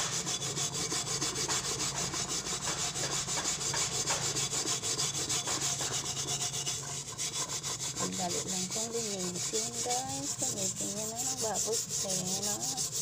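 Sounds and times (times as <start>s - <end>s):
hand scrubbing metal frying pan: 0.0s - 13.0s.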